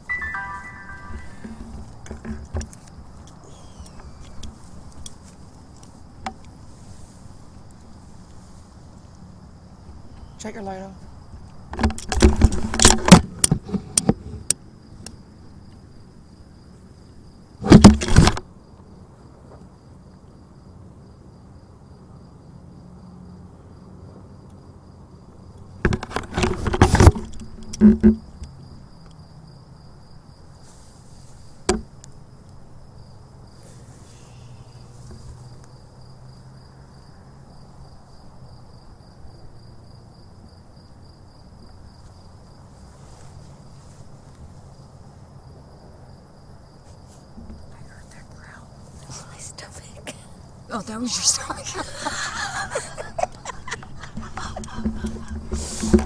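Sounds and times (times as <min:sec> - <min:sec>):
cricket trilling: 0:00.0 - 0:56.0.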